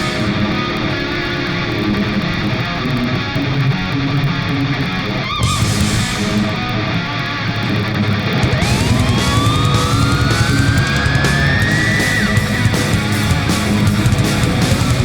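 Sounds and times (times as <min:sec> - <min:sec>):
loud electric guitar music: 0:00.0 - 0:15.0.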